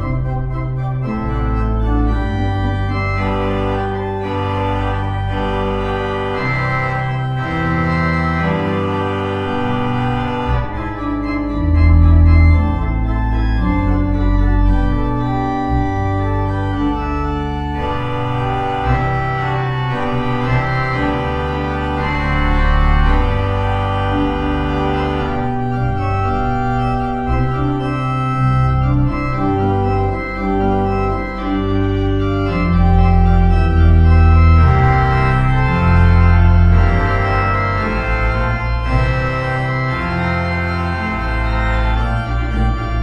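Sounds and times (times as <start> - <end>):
church organ playing chords: 0.0 - 43.0.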